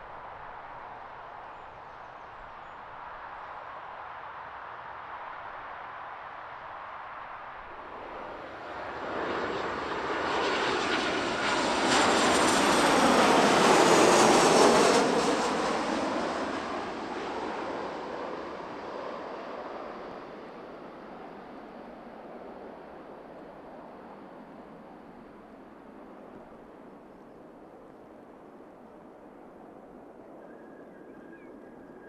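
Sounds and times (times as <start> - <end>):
airliner passing overhead: 0.0 - 32.0.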